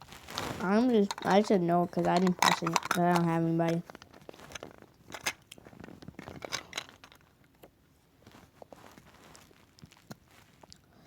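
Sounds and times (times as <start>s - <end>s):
faint rustling: 0.0s - 7.3s, 8.2s - 10.7s.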